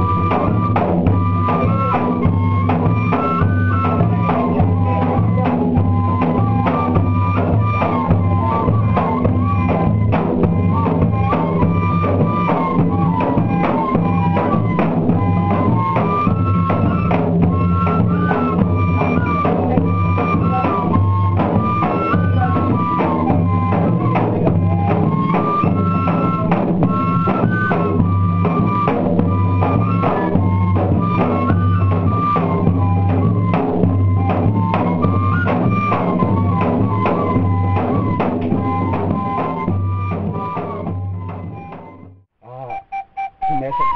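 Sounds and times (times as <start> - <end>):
bass drum and percussion beat: 0.0 - 43.9
fife playing folk melody: 0.0 - 43.9.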